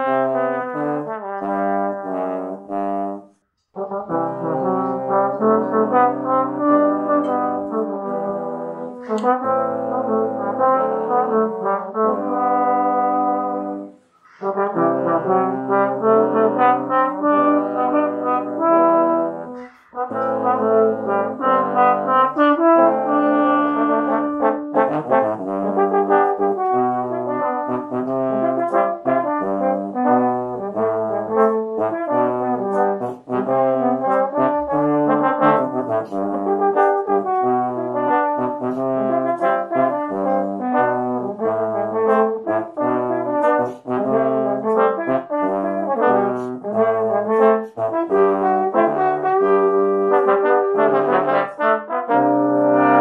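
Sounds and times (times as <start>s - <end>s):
bass trombone low notes: 0.0s - 53.0s
trombone quartet playing pop ballad: 0.0s - 53.0s.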